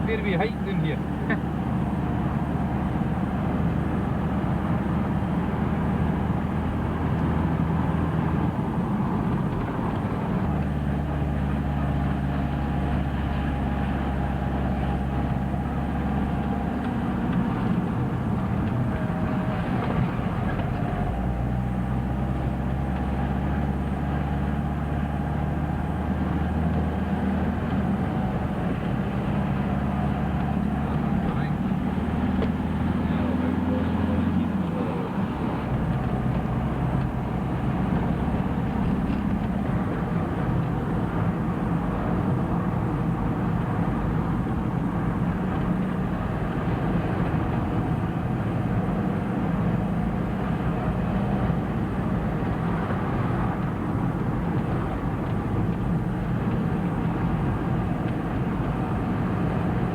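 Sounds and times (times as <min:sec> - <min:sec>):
van engine running: 0:00.0 - 0:59.9.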